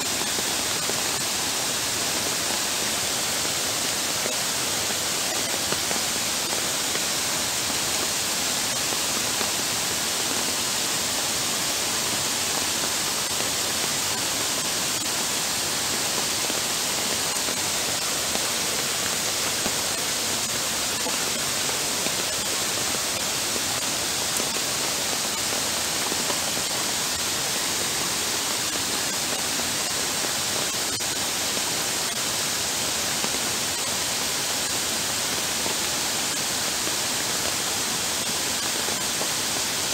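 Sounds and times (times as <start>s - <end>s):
floodwater rushing over pavement: 0.0s - 39.9s
heavy rain: 0.0s - 39.9s.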